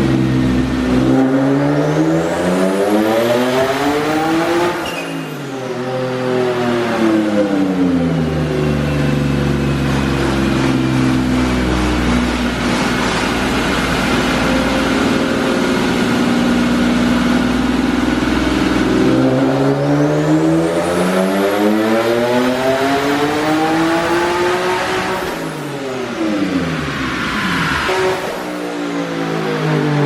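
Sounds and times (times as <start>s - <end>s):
car engine revving on dyno: 0.0s - 30.0s.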